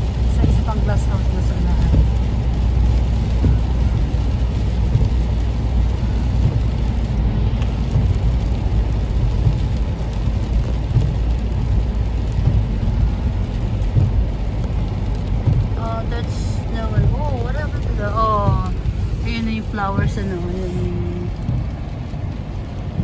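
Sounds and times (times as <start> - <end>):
rain on windscreen: 0.0 - 23.0
road and engine rumble: 0.0 - 23.0
tyres hissing on wet road: 0.0 - 23.0.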